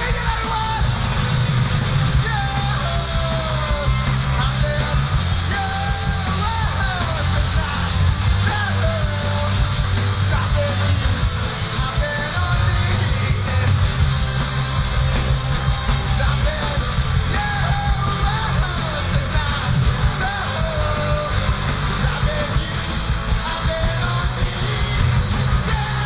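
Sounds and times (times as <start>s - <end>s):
singer shouting and singing: 0.0s - 1.4s, 2.0s - 26.0s
punk rock band playing: 0.0s - 26.0s.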